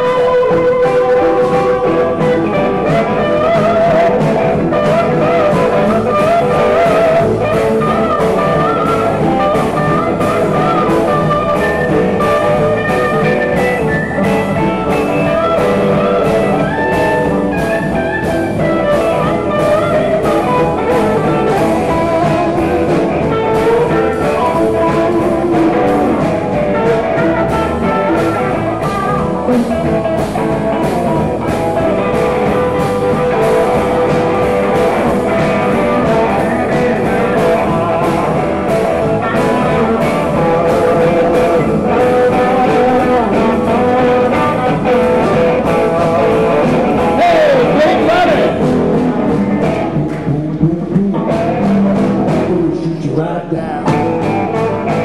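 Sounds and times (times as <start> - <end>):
drum kit beat: 0.0 - 55.0
electric guitar: 0.0 - 55.0.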